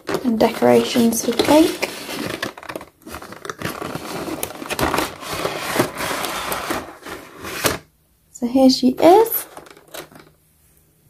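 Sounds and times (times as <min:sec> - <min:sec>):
plastic tray crinkling and scraping: 0:00.0 - 0:07.9, 0:09.0 - 0:10.4.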